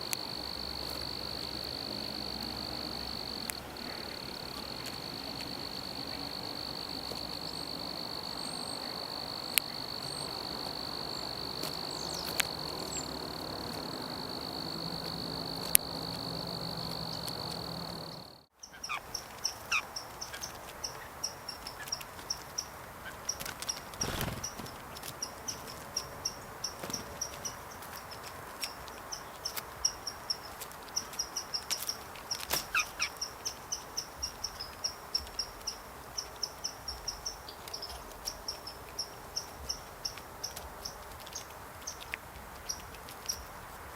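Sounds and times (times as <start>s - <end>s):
rapid short cricket chirps: 0.0s - 22.4s, 23.3s - 40.2s
crickets trilling: 0.0s - 43.9s.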